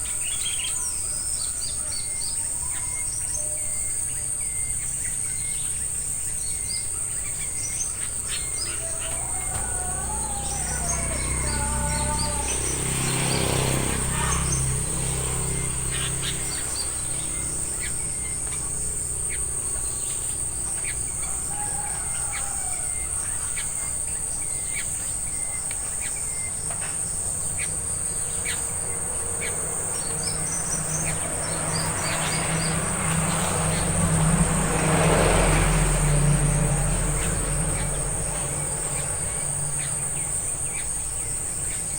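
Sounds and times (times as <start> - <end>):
birds chirping: 0.0 - 41.9
insects droning: 0.0 - 41.9
warbled bird calls: 0.0 - 41.9.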